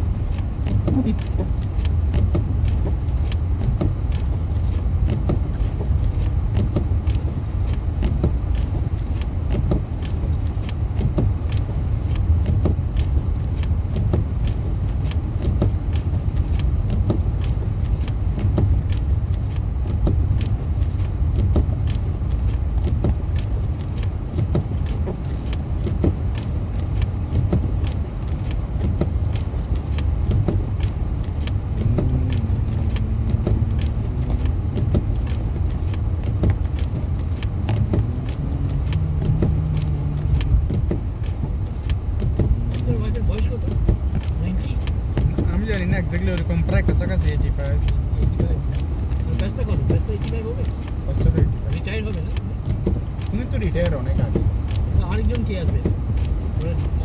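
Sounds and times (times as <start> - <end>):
road and engine rumble: 0.0 - 57.0
faint ticks: 0.2 - 57.0.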